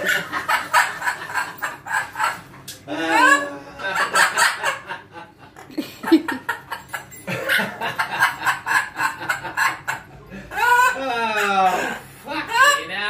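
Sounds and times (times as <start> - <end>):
parrot laugh-like calls: 0.0 - 12.9.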